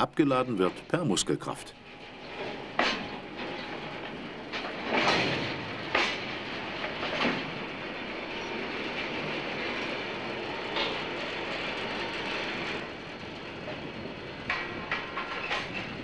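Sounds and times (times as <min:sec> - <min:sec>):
steel wheels clanking on rails: 0:00.0 - 0:16.0
wagon rolling on rails: 0:00.0 - 0:16.0.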